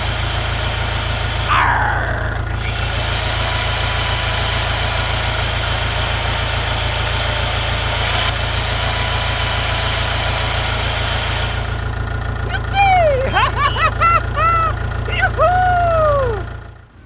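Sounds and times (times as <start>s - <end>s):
small machine humming and rattling: 0.0s - 17.0s.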